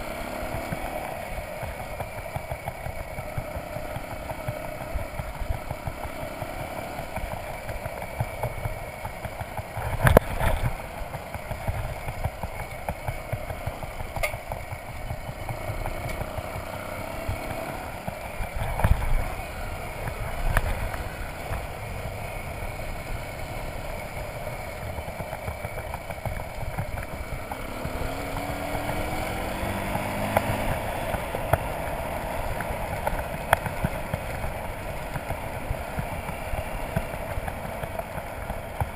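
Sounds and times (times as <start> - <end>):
motorcycle riding on gravel: 0.0 - 38.9.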